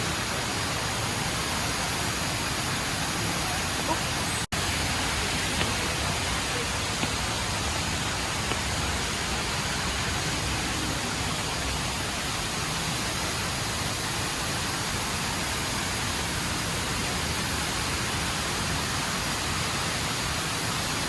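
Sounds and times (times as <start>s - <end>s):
indoor waterfall pouring: 0.0s - 21.0s.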